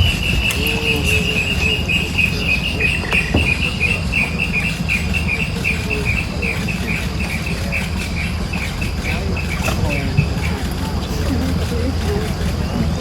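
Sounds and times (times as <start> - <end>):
cricket chirping: 0.0 - 10.5.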